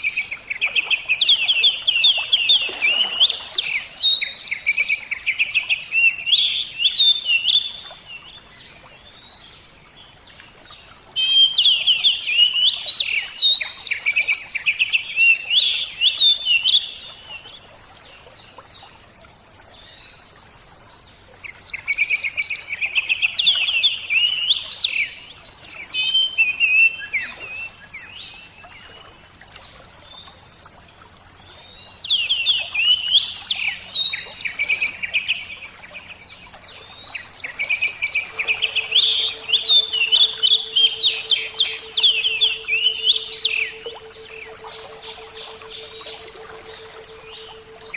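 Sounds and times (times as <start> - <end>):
faint running water: 0.0 - 47.9.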